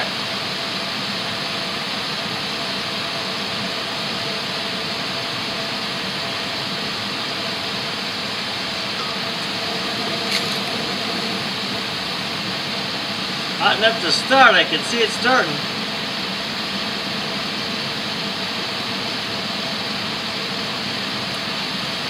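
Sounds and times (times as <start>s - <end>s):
propane torch hissing: 0.2s - 22.0s.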